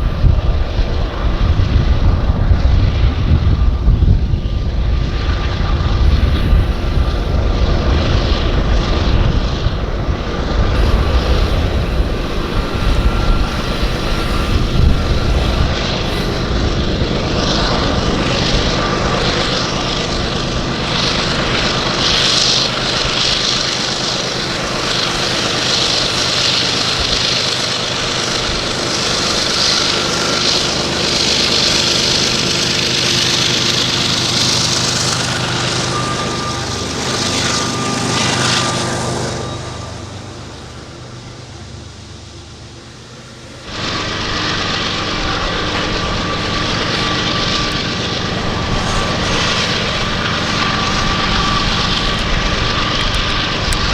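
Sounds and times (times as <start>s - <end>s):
diesel locomotive drone: 0.0s - 53.9s
hissing wheel on rail: 0.0s - 53.9s
rumble of rolling wheels: 0.0s - 53.9s.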